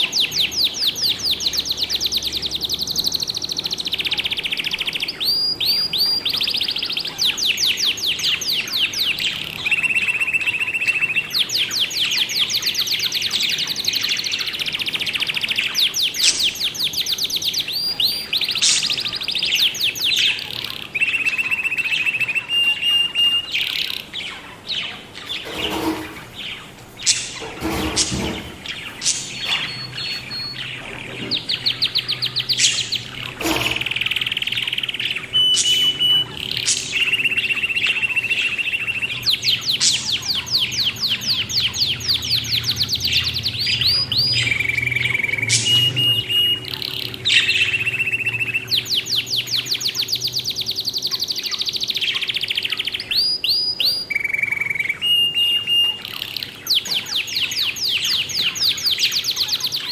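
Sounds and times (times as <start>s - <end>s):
budgies chirping: 0.0s - 59.9s.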